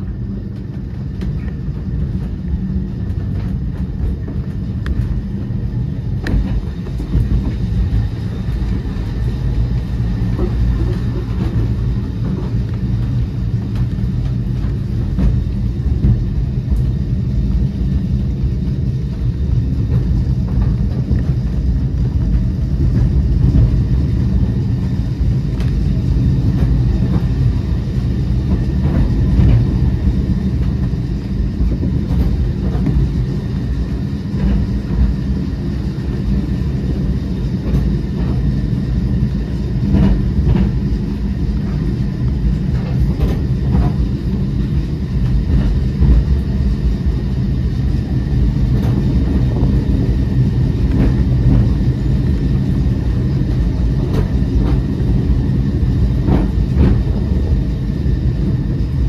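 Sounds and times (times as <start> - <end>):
tram rumbling on rails: 0.0 - 59.0.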